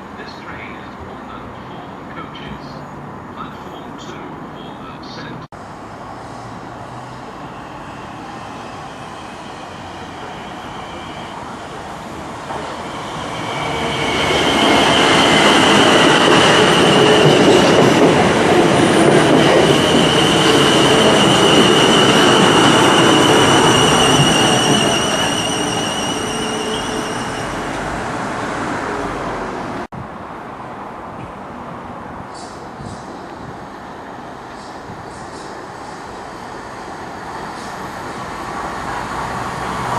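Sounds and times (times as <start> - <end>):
high whine of train: 0.0 - 39.9
train wheels rumbling on rail: 3.4 - 30.1, 31.0 - 39.9.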